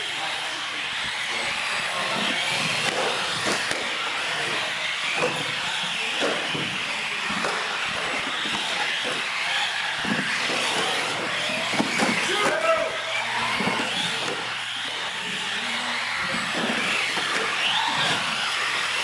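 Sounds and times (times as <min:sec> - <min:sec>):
small motors whining: 0:00.0 - 0:19.0.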